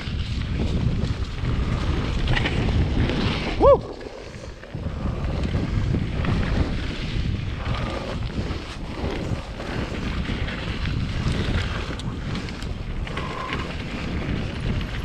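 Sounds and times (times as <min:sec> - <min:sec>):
bike tyres rumbling on gravel: 0:00.0 - 0:15.0
wind buffeting microphone: 0:00.0 - 0:15.0.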